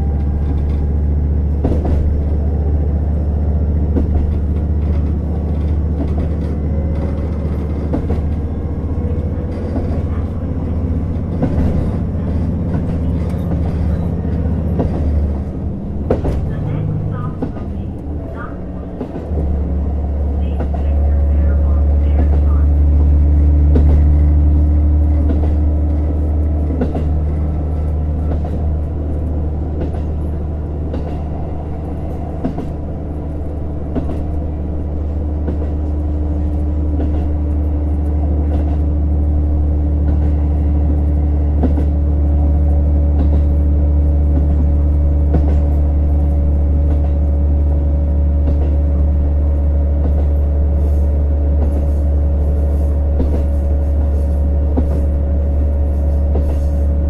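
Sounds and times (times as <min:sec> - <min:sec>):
railcar diesel engine drone: 0:00.0 - 0:57.0
wheels clicking on rails: 0:00.0 - 0:57.0.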